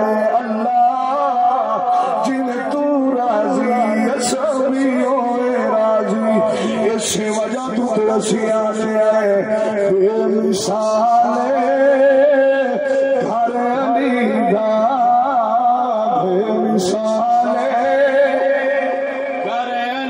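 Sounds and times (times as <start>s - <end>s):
man chanting into microphone: 0.0s - 20.0s.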